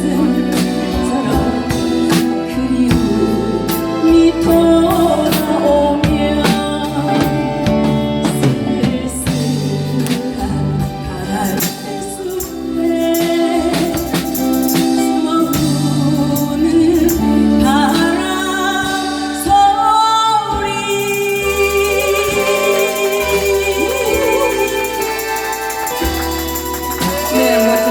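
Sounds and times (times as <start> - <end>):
bass and drums: 0.0 - 27.9
person singing a ballad: 0.0 - 27.9.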